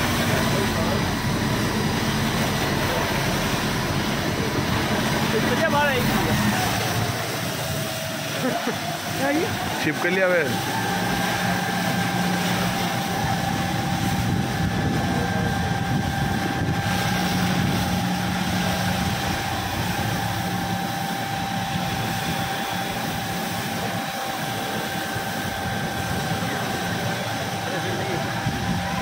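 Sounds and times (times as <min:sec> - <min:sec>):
high-pressure hose jet hissing: 0:00.0 - 0:28.3
fire engine pump hum: 0:00.0 - 0:29.0.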